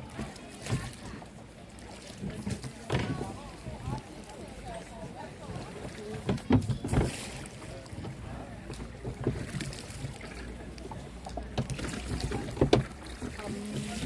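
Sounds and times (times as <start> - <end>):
paddle knocks and splashes: 0.0 - 14.0.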